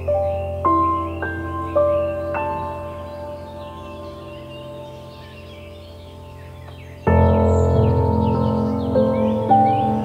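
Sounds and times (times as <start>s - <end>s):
calm ambient music: 0.0s - 10.0s.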